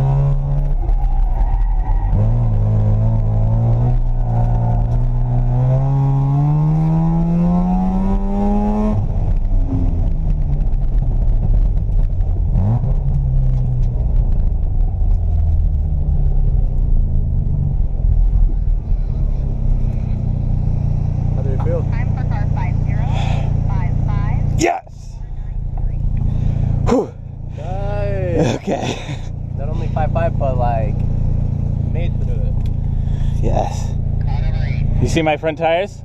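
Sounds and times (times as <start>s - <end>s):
rotary engine accelerating: 0.0s - 36.0s.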